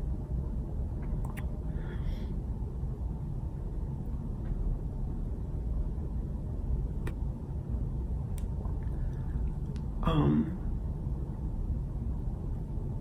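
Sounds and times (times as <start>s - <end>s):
low room noise rumble: 0.0s - 13.0s.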